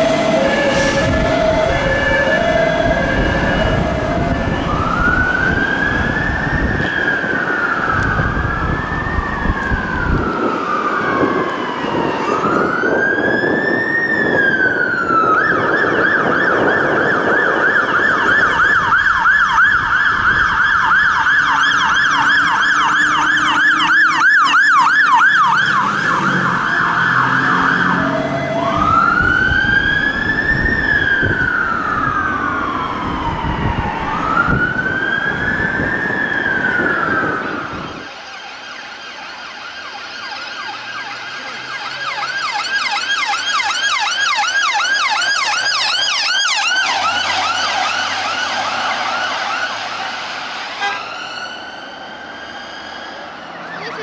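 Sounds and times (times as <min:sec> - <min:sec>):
fire engine sirens: 0:00.0 - 0:54.0
truck engines running: 0:00.0 - 0:54.0.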